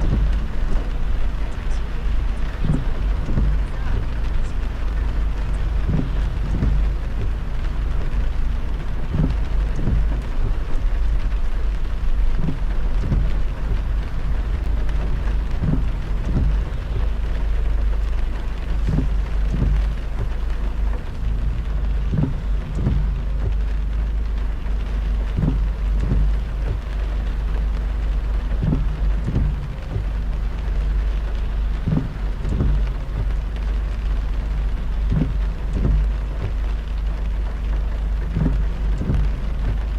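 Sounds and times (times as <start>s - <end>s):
heavy rain on a car: 0.0s - 39.9s
tyres rumbling on wet road: 0.0s - 39.9s.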